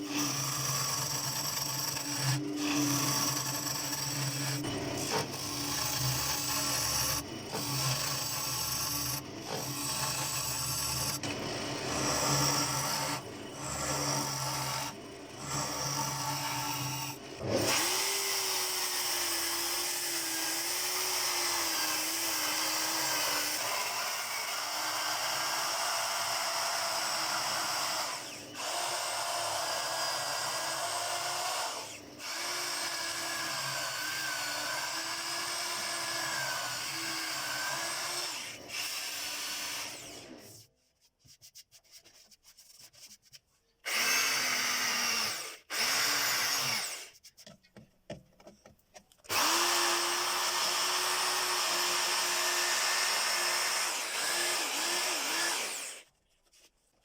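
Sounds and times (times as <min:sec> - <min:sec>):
power tool motor whirring: 0:00.0 - 0:40.6, 0:43.9 - 0:47.2, 0:49.3 - 0:56.1.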